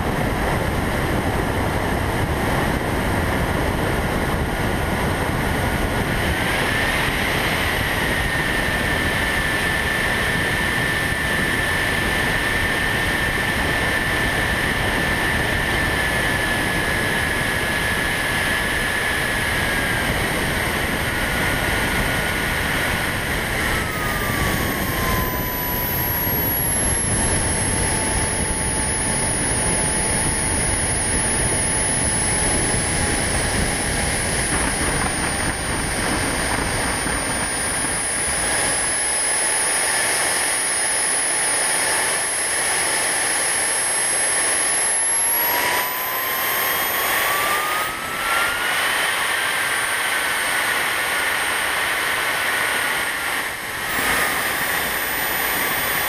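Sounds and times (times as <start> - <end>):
wind rush on microphone: 0.0 - 40.8, 41.4 - 56.0
model airplane motor: 0.0 - 56.0.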